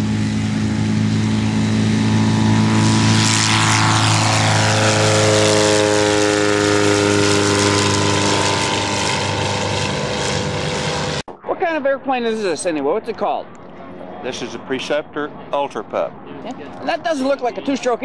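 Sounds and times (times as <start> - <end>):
light aircraft engine and propeller: 0.0 - 11.3, 12.4 - 18.0.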